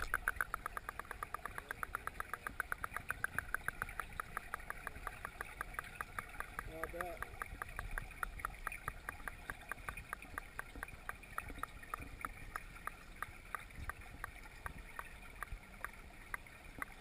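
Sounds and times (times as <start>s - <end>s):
sharp underwater ticks: 0.0s - 17.0s.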